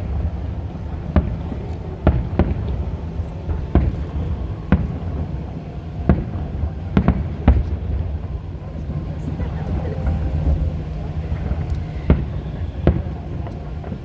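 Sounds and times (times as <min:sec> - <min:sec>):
fireworks bangs: 0:00.0 - 0:14.0
low rumble: 0:00.0 - 0:14.0.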